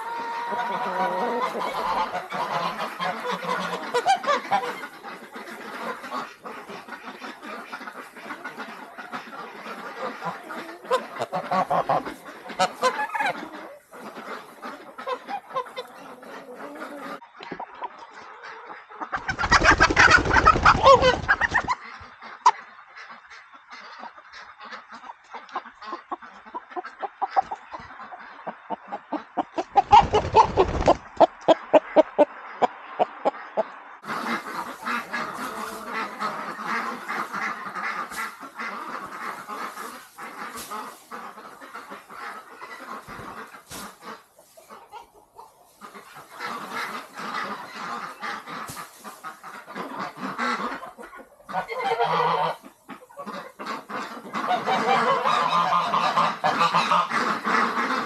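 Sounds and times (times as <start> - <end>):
ducks quacking: 0.0 - 58.0
geese honking: 0.0 - 58.0.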